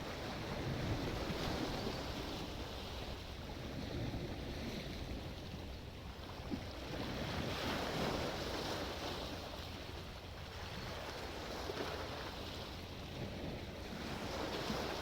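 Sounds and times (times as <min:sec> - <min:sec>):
waves breaking on shore: 0:00.0 - 0:15.0
wind: 0:00.0 - 0:15.0.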